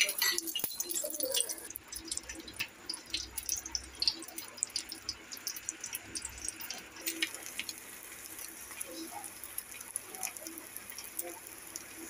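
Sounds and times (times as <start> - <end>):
oil sizzling and popping: 0.0 - 12.0.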